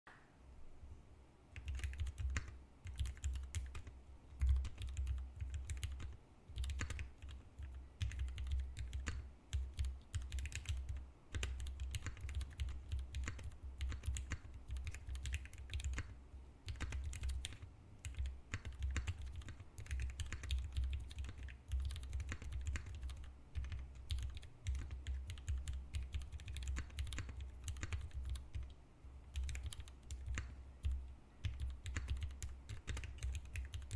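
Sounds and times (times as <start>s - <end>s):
mechanical keyboard typing: 1.6s - 33.9s.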